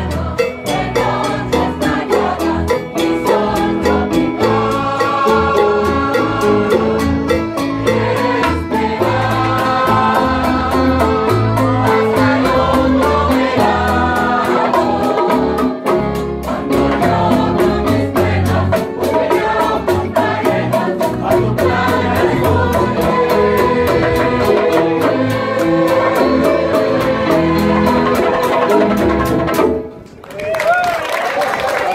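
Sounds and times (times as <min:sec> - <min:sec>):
group of voices singing: 0:00.0 - 0:29.5.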